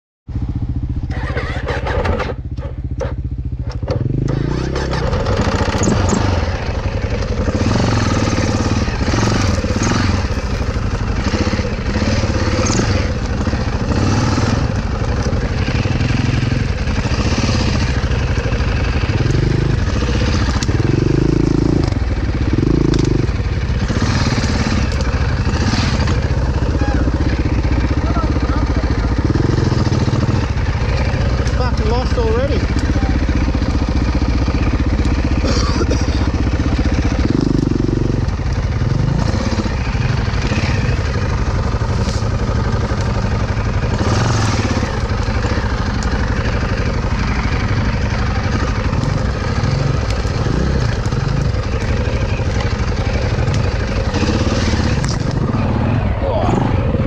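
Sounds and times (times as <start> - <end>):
dirt bike engine revving: 0.4 - 57.0.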